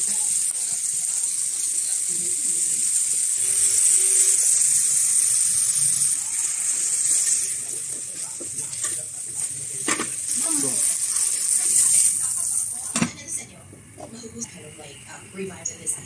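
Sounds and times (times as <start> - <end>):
sauce pouring: 0.0 - 13.0
food sizzling in hot oil: 0.0 - 13.2.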